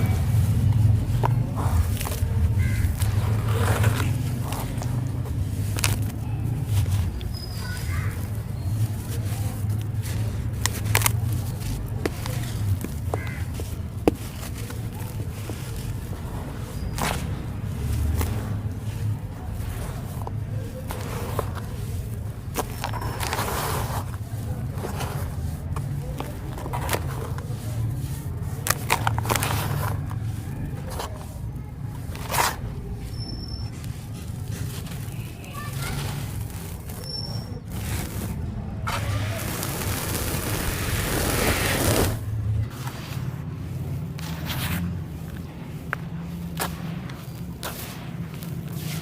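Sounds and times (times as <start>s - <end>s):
dry clay crumbling: 0.0s - 49.0s
sand clumps crunching: 0.0s - 49.0s.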